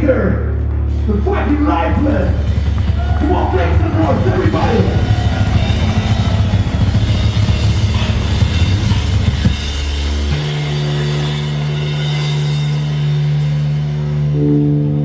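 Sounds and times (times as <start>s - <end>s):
distorted guitars: 0.0s - 15.0s
low guitar and bass drone: 0.0s - 15.0s
fast dense drumming: 0.8s - 13.8s.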